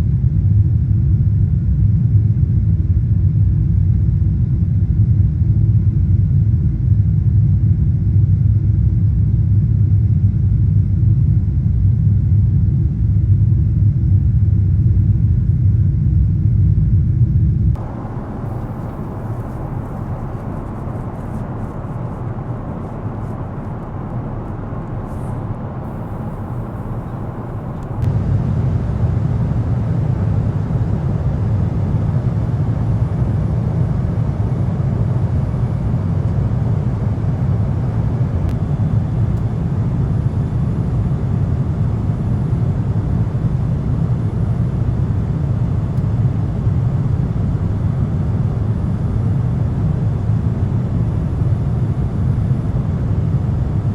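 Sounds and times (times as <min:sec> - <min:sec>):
airliner cabin rumble: 0:00.0 - 0:53.9.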